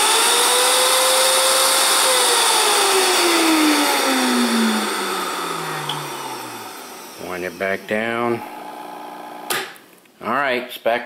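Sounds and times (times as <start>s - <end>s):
blender motor whining: 0.0s - 9.6s.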